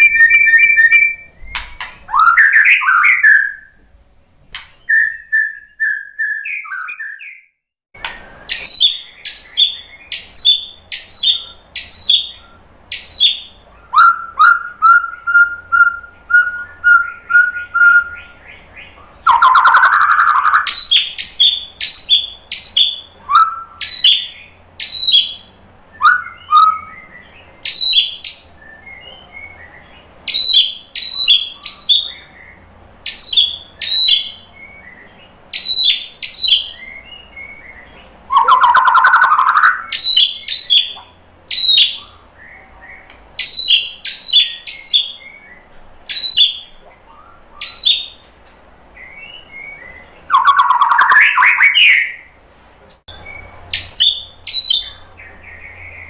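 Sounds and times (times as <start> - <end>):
bird whistling downward notes: 0.0 - 3.8, 4.7 - 7.5, 8.2 - 48.2, 49.0 - 52.3, 53.1 - 56.0.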